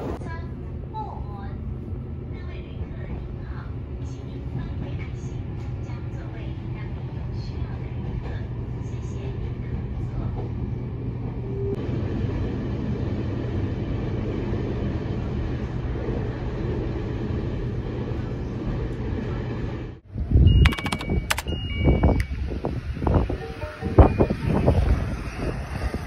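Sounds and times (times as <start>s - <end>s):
electric train rumble from inside: 0.0s - 20.5s, 21.2s - 26.0s.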